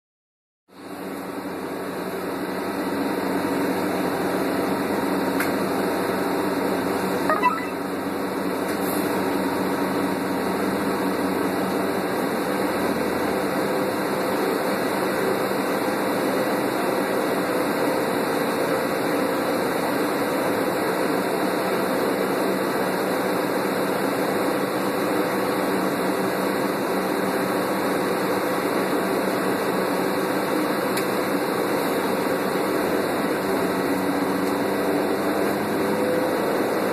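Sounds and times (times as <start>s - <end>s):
bus interior engine drone: 0.7s - 36.9s.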